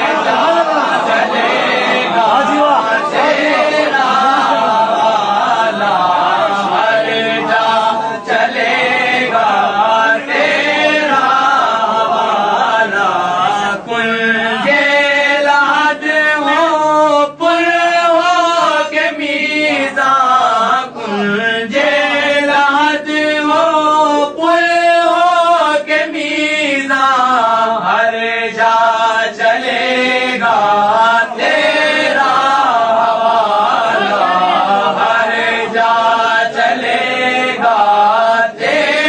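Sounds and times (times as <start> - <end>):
chant-like singing: 0.0 - 39.0.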